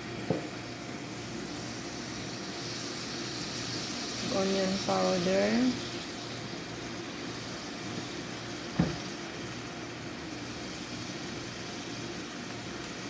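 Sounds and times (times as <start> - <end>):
onions and tomatoes cooking: 0.0 - 13.0.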